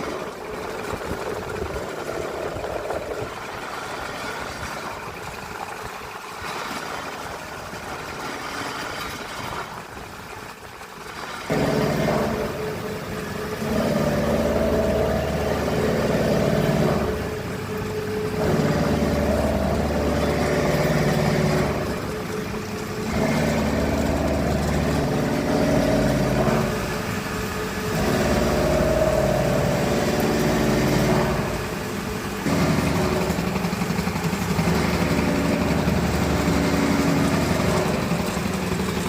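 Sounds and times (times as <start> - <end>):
machining centre motors humming: 0.0 - 39.0.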